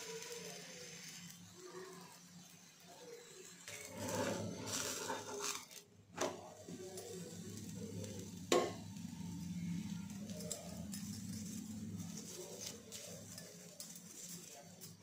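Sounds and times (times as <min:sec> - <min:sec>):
flatbread sizzling on pan: 0:00.0 - 0:15.0.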